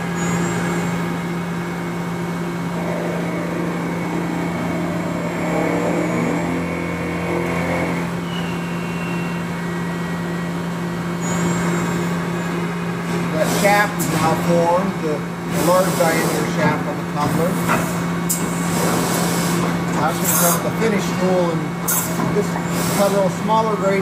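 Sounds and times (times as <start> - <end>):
lathe tool cutting metal shaft: 0.0 - 24.0
steady low machine hum: 0.0 - 24.0.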